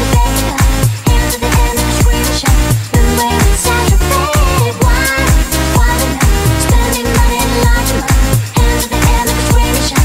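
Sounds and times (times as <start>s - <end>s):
electronic hip-hop music: 0.0s - 10.0s.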